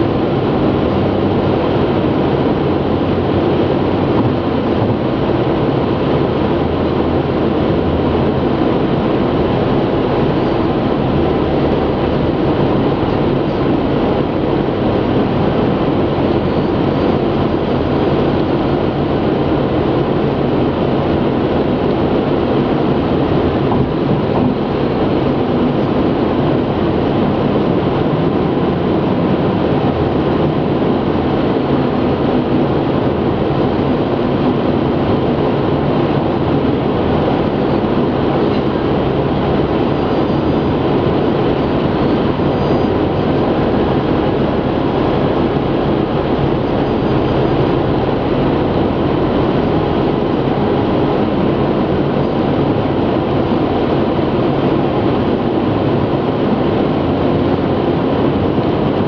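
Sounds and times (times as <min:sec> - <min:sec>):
tyres rumbling on asphalt: 0:00.0 - 0:57.5
car engine hum: 0:00.0 - 0:59.0
wind noise: 0:00.0 - 0:59.0.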